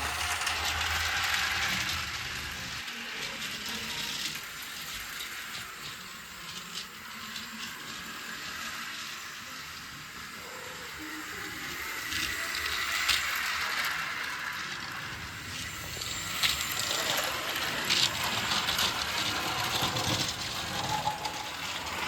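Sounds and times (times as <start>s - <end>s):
toy train whirring: 0.0s - 22.0s.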